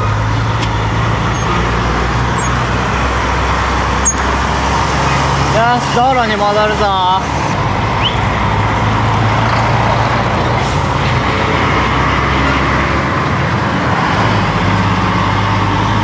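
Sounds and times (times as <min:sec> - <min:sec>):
heavy trucks engine drone: 0:00.0 - 0:16.0
road noise: 0:00.0 - 0:16.0.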